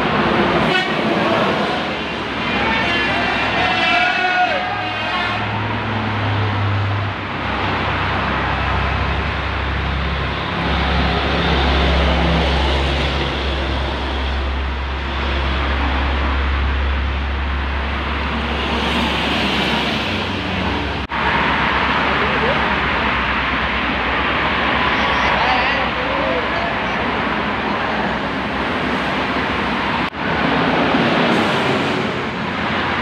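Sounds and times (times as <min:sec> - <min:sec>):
traffic passing at speed: 0:00.0 - 0:33.0.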